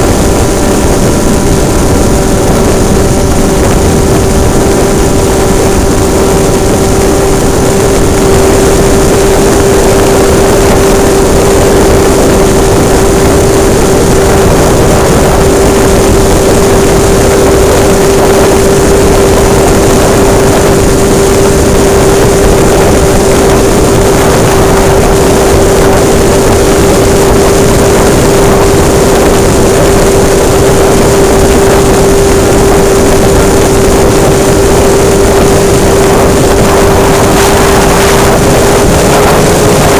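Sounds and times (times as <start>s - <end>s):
model airplane engine high pitch: 0.0s - 39.9s
rushing wind noise: 0.0s - 39.9s.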